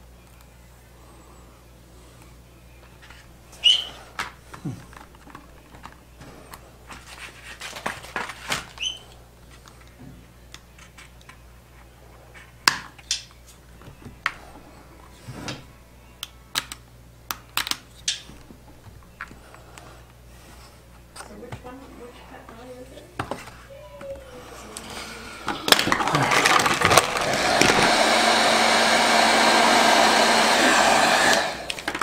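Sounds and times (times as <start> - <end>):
faint steady hum: 0.0 - 27.2.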